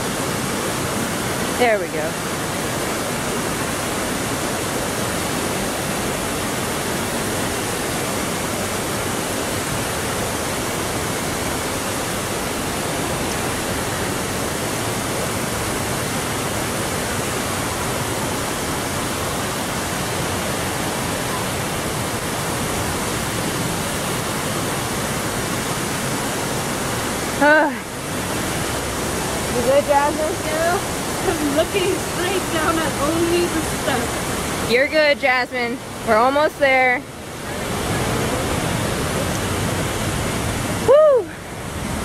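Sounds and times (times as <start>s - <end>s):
water rushing down fountain: 0.0s - 42.0s.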